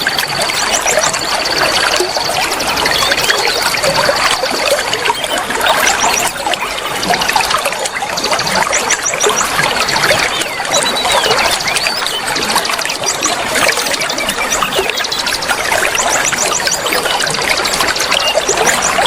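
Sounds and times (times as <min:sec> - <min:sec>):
birds chirping: 0:00.0 - 0:19.0
water trickling and splashing: 0:00.0 - 0:19.0.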